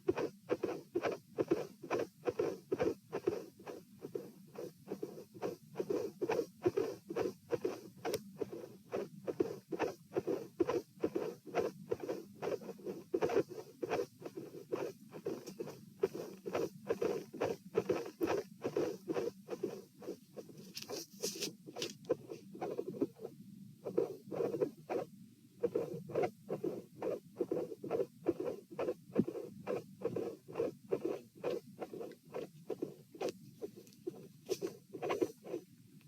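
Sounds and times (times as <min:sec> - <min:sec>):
heartbeat through stethoscope: 0:00.0 - 0:21.0, 0:21.7 - 0:35.7
scratchy rustle: 0:00.0 - 0:35.7.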